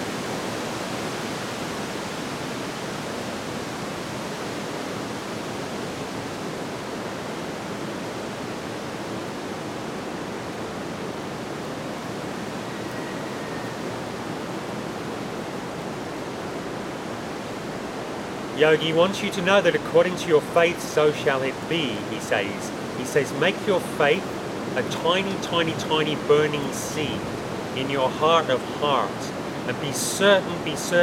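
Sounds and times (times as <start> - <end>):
distant ocean surf roar: 0.0 - 31.0.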